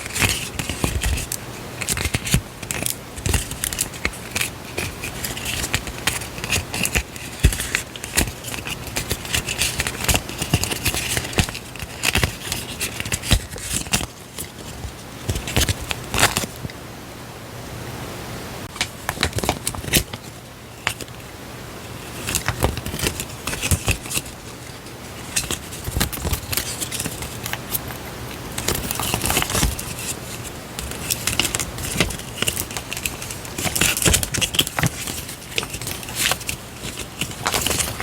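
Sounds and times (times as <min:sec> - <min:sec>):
paper crinkling and rustling: 0:00.0 - 0:16.7, 0:18.6 - 0:38.0.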